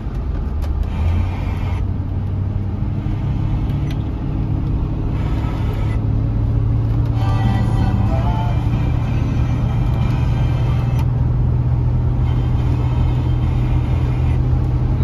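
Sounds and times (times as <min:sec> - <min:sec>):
engine and road noise in cab: 0:00.0 - 0:15.0.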